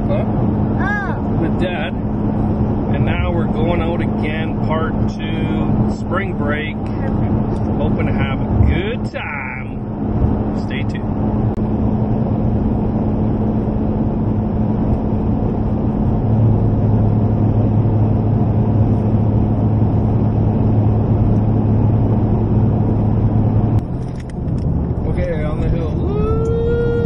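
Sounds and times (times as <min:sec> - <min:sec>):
deeper hum: 0:00.0 - 0:27.0
vehicle engine rumble: 0:00.0 - 0:27.0.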